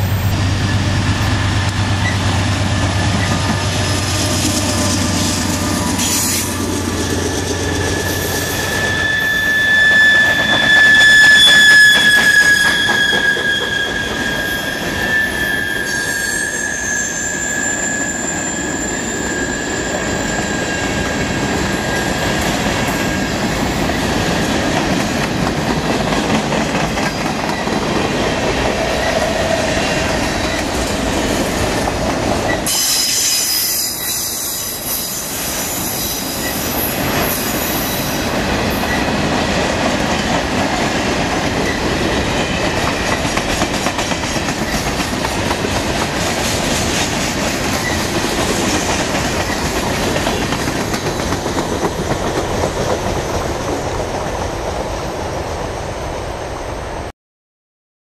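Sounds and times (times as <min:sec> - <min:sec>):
train wheels rumbling and clattering: 0:00.0 - 0:15.3, 0:18.2 - 0:55.8.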